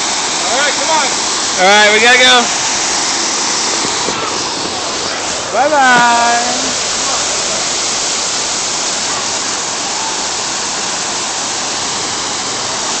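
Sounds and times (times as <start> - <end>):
water pouring down waterfall: 0.0 - 13.0.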